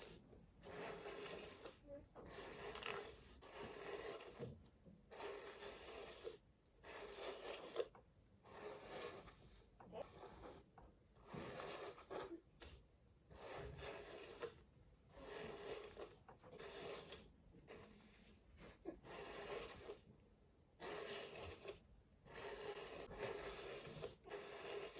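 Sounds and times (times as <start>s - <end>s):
hairbrush strokes through hair: 0.0s - 7.9s, 8.5s - 12.8s, 13.4s - 14.6s, 15.2s - 20.0s, 20.8s - 24.9s.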